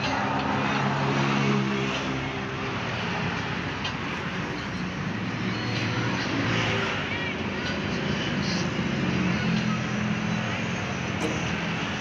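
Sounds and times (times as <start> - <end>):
street traffic noise: 0.0 - 12.0
engine hum: 1.6 - 12.0.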